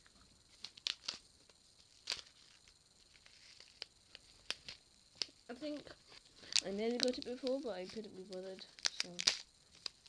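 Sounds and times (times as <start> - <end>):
popping candy crackling in mouth: 0.0 - 10.0.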